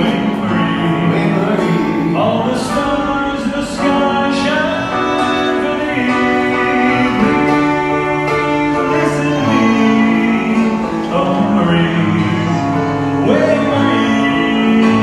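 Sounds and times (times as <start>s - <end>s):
instrumental accompaniment: 0.0s - 15.0s
vocal duo singing: 0.0s - 15.0s.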